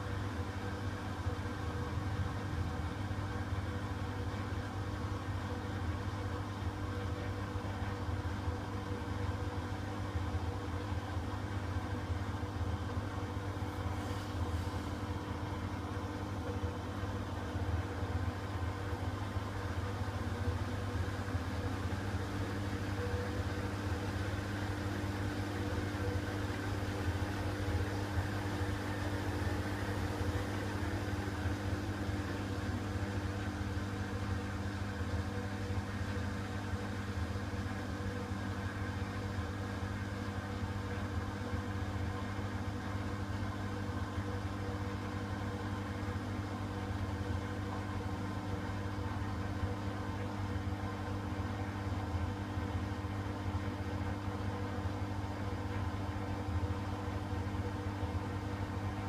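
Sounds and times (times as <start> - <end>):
washer-dryer humming: 0.0 - 59.0.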